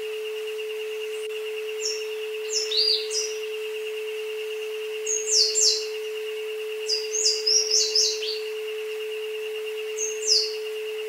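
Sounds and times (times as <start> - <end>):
pulsing high electronic tone: 0.0 - 11.0
birds chirping: 0.3 - 11.0.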